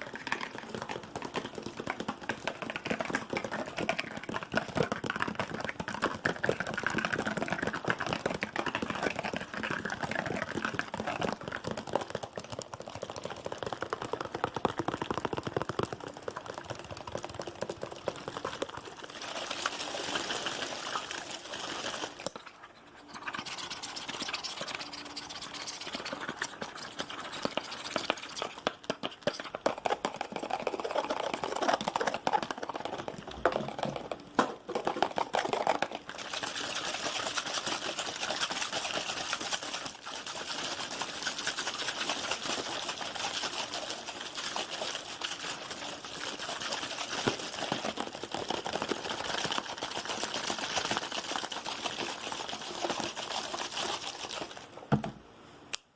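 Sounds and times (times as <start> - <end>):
rapid tapping on objects: 0.0 - 22.4, 23.1 - 55.2.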